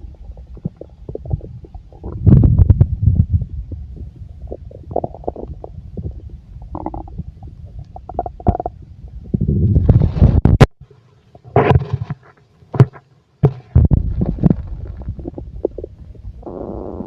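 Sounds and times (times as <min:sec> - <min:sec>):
stomach gurgling and rumbling: 0:00.0 - 0:10.7, 0:11.3 - 0:17.0.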